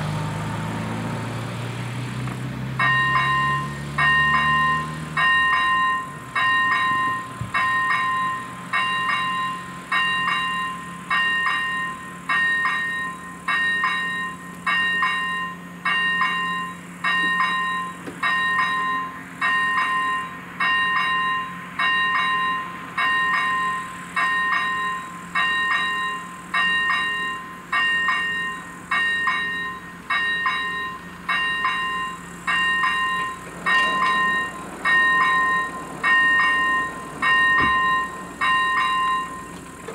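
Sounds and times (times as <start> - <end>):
level crossing bell ringing: 2.8 - 39.9.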